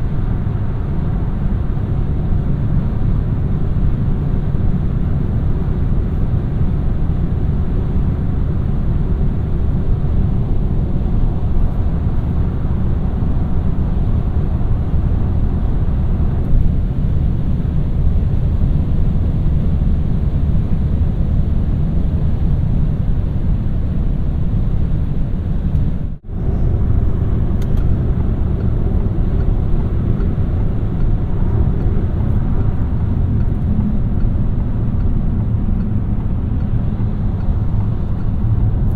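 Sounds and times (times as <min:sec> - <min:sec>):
car engine rumble: 0:00.0 - 0:38.9
tyres on road: 0:00.0 - 0:38.9.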